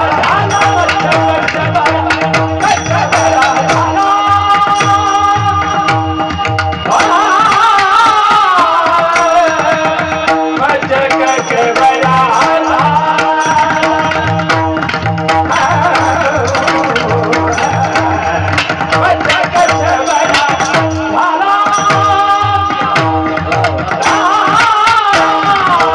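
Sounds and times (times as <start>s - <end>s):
hand drum rhythm: 0.0s - 25.9s
man singing: 0.0s - 25.9s.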